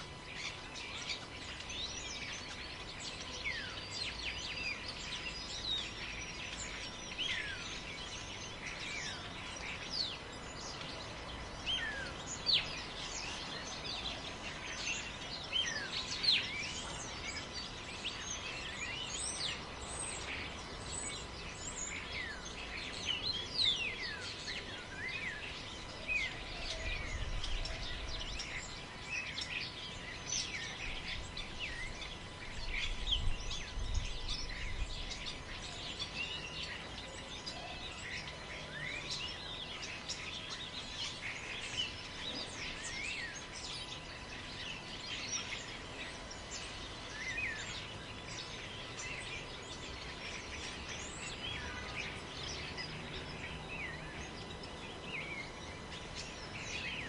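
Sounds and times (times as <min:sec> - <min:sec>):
birds chirping and calling: 0:00.0 - 0:57.0
wind in trees: 0:00.0 - 0:57.0.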